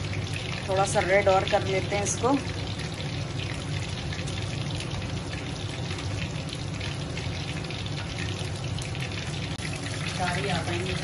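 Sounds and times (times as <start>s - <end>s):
deep-frying sizzle: 0.0s - 11.0s
low steady hum: 0.0s - 11.0s.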